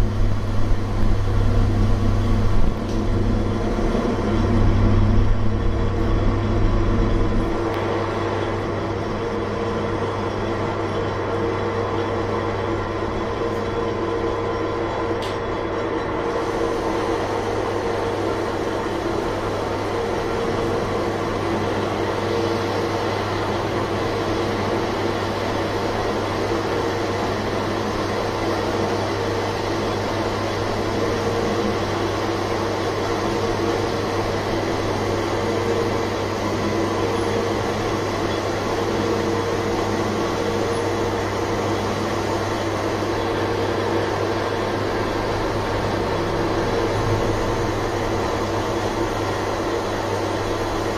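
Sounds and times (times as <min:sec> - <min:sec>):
metal lathe humming: 0:00.0 - 0:50.9.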